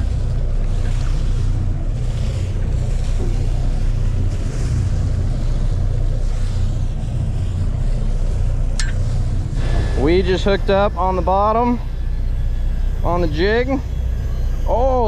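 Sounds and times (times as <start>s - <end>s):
steady low rumble: 0.0s - 15.0s
water washing along boat hull: 0.0s - 15.0s.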